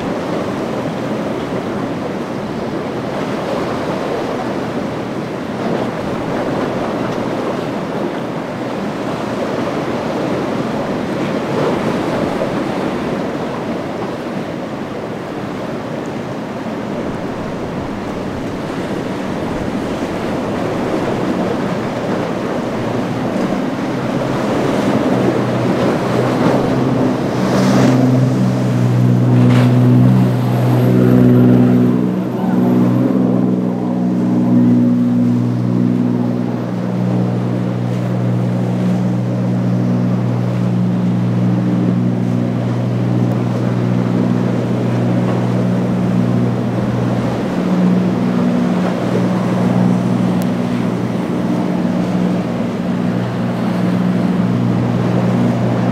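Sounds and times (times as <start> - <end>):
boat diesel engine drone: 0.0 - 55.9
surf breaking: 0.0 - 55.9
wind on microphone: 0.0 - 55.9.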